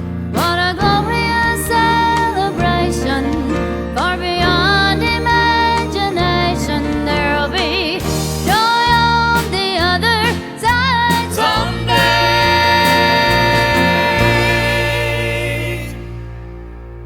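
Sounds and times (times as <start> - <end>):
bass and instrumental accompaniment: 0.0 - 17.0
person singing with vibrato: 0.4 - 16.4.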